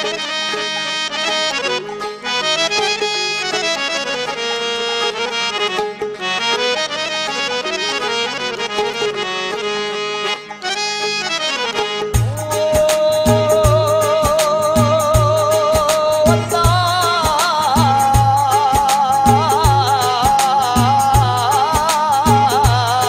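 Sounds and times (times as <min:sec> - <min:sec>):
reed instrument melody: 0:00.0 - 0:23.0.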